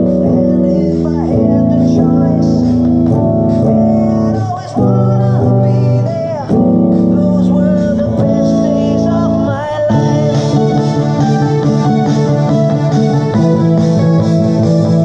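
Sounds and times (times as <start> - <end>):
band accompaniment: 0.0 - 15.0
electric guitar playing rock chords: 0.0 - 15.0.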